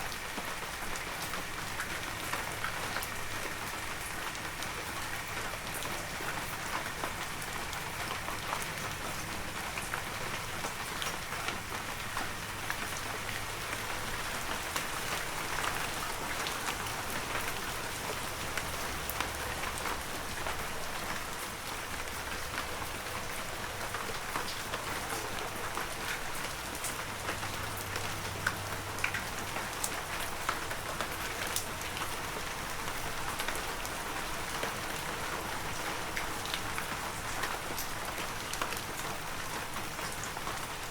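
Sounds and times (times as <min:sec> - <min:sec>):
heavy rain: 0:00.0 - 0:40.9
raindrops pattering on leaves: 0:00.0 - 0:40.9.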